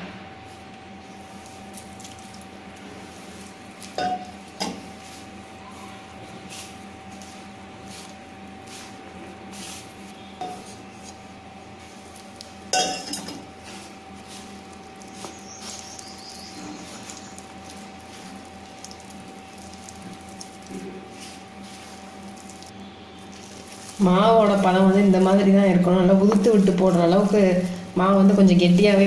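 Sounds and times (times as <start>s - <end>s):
hand squishing flour mixture: 0.4s - 29.0s.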